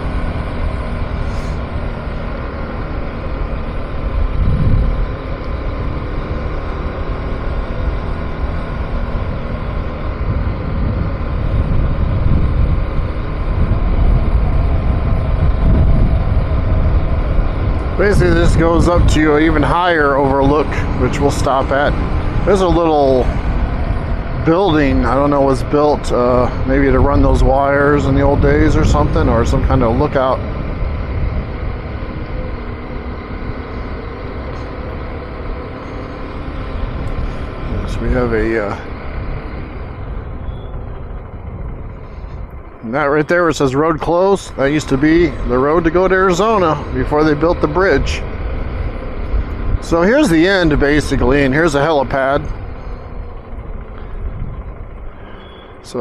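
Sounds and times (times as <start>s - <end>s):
motorcycle engine running: 0.0s - 56.0s
wind noise on microphone: 3.8s - 6.5s, 8.6s - 35.1s, 36.4s - 55.9s.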